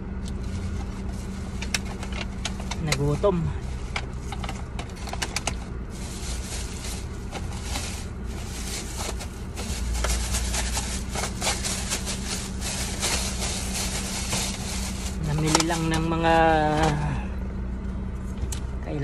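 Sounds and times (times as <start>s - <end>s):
low hum inside a car: 0.0s - 19.0s
plastic bag rustling: 0.4s - 17.0s.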